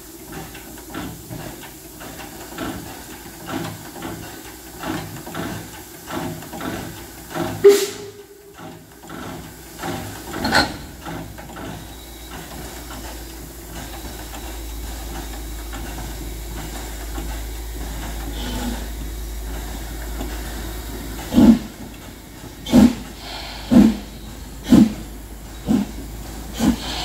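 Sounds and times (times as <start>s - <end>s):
steam hissing from locomotive: 0.0s - 27.0s
steam locomotive chuffing: 0.0s - 27.0s.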